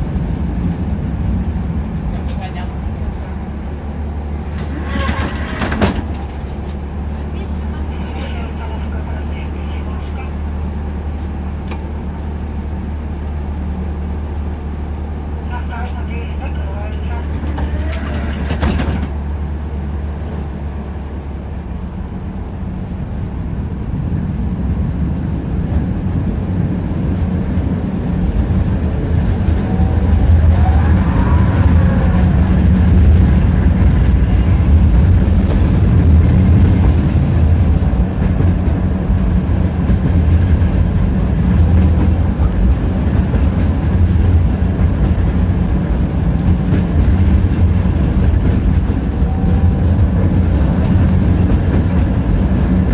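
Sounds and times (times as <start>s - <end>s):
tram wheels rumbling on rails: 0.0s - 52.9s
tram whine: 0.0s - 52.9s.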